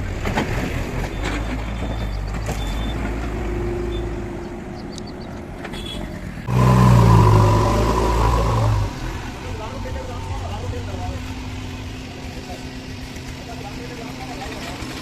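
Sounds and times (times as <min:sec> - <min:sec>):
diesel engine running: 0:00.9 - 0:15.0.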